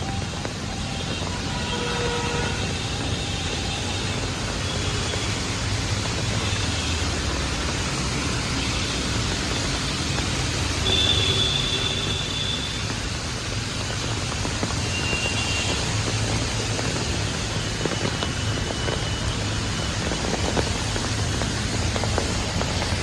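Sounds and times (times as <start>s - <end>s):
rain hiss: 0.0s - 23.0s
traffic on wet street: 0.0s - 23.0s.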